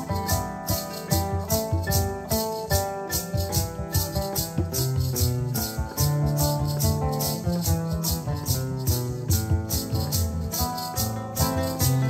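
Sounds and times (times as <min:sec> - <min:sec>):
acoustic guitar strumming: 0:00.0 - 0:12.0
maracas shaking: 0:00.0 - 0:12.0.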